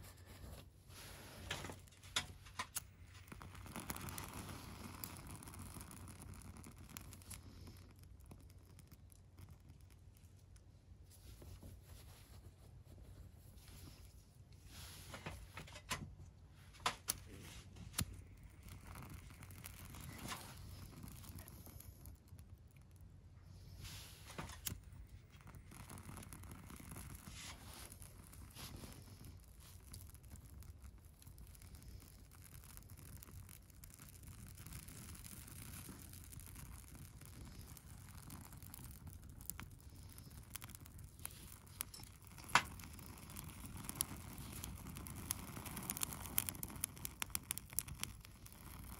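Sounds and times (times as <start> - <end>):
fire crackling: 0.0 - 48.9
sharp pops from fire: 1.4 - 10.0, 16.7 - 23.0, 23.6 - 48.9.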